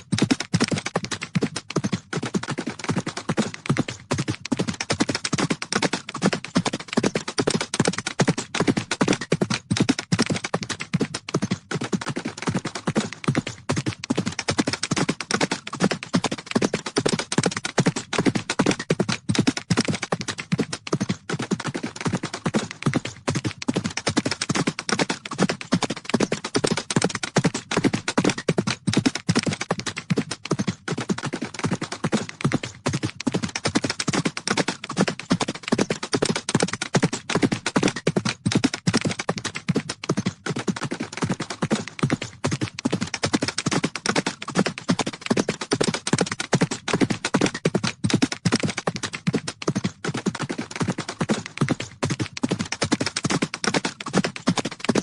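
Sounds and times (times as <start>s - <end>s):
horses galloping: 0.0s - 55.0s.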